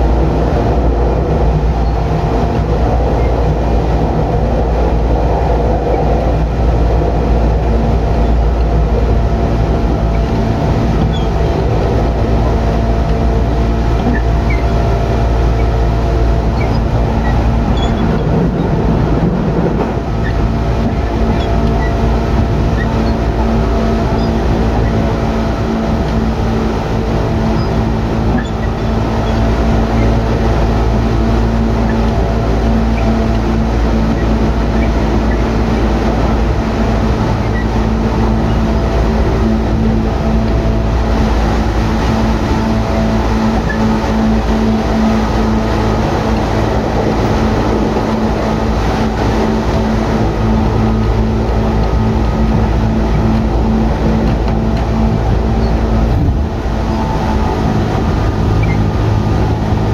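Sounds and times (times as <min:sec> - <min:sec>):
electric train motor hum: 0:00.0 - 0:59.9
wheels rumbling on rail: 0:00.0 - 0:59.9.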